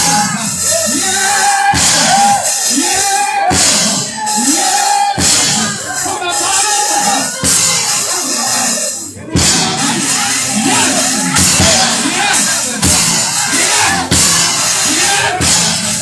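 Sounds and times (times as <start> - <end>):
drum strikes: 0.0 - 16.0
gospel band playing: 0.0 - 16.0.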